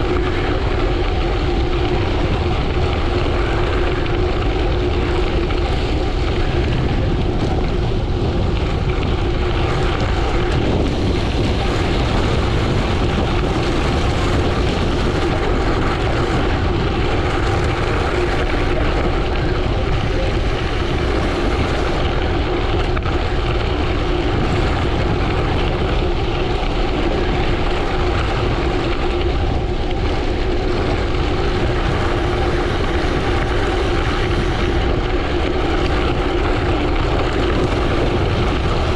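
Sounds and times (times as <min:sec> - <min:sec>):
constant hum: 0:00.0 - 0:38.9
tyres rolling on gravel: 0:00.0 - 0:38.9
wind rushing over microphone: 0:00.0 - 0:38.9.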